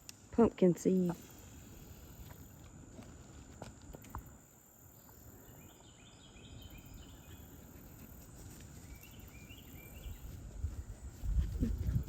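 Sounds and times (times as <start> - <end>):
insects droning: 0.0 - 11.2.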